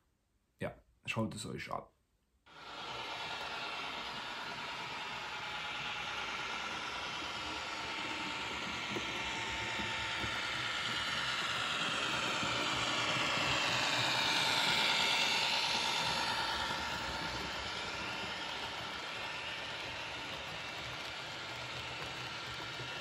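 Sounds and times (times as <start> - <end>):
faint steady whine: 2.5 - 23.0
model train running past: 2.5 - 23.0.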